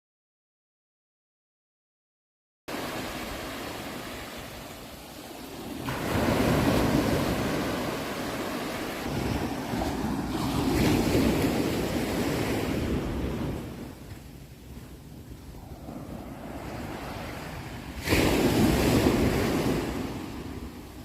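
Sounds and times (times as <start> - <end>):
sea waves washing in: 2.7 - 21.0.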